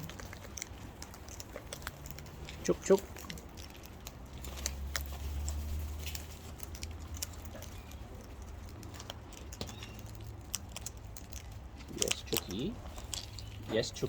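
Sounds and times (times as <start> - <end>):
birds pecking at food: 0.0 - 14.0.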